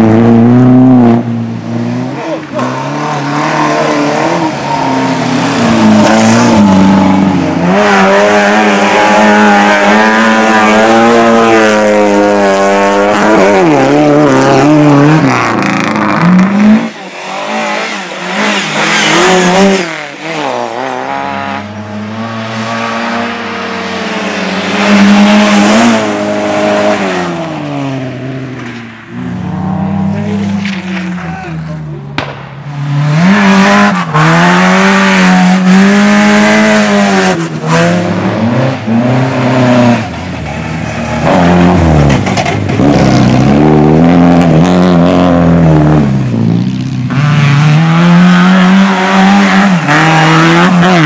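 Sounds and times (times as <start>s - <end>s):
race car engines revving: 0.0s - 51.0s.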